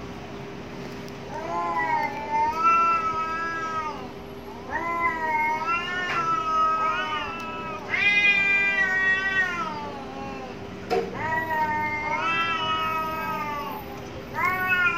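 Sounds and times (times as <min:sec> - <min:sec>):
cats yowling angrily: 0:01.3 - 0:14.9.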